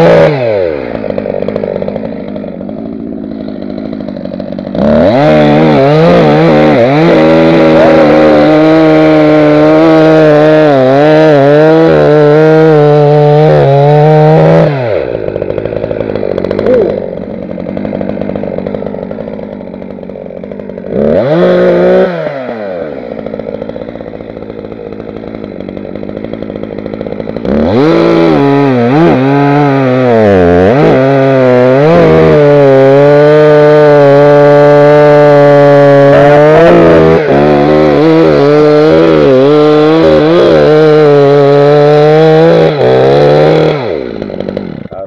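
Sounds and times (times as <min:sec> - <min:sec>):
chainsaw idling and cutting log: 0:00.0 - 0:45.0.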